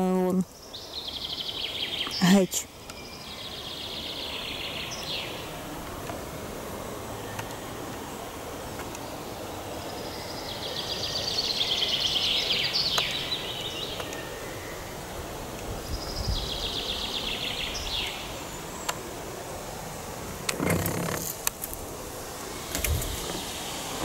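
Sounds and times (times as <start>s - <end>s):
background hiss: 0.0s - 24.0s
songbird singing: 0.0s - 24.0s.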